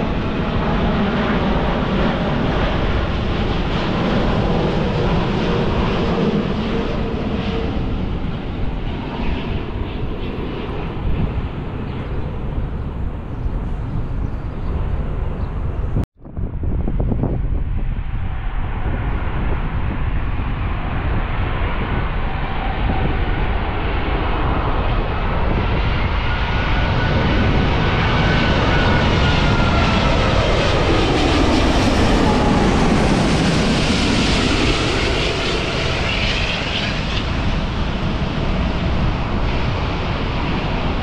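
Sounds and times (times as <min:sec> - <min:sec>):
jet airliner passing overhead: 0:00.0 - 0:41.0.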